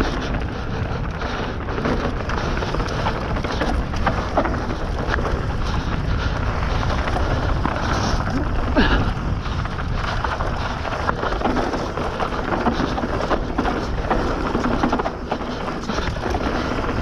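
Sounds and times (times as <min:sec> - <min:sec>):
bike knocking and rattling: 0:00.0 - 0:17.0
bike tyres on dirt trail: 0:00.0 - 0:17.0.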